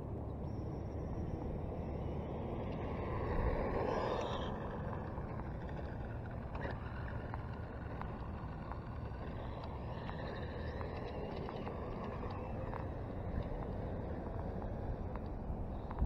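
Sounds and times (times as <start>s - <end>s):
wind noise on microphone: 1.6s - 16.0s.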